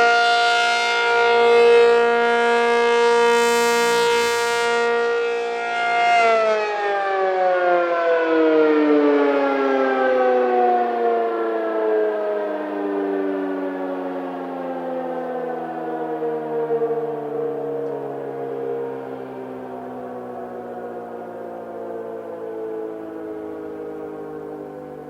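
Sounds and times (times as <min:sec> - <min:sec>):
warning siren winding down: 0:00.0 - 0:25.0.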